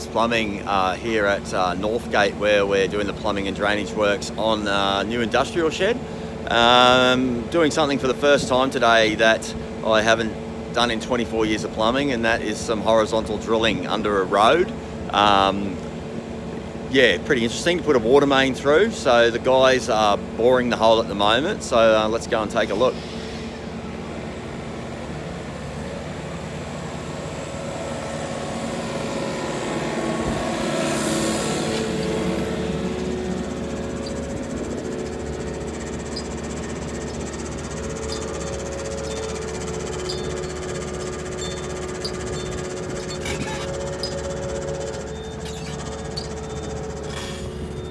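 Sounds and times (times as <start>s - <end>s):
boring rig engine running: 0.0s - 47.9s.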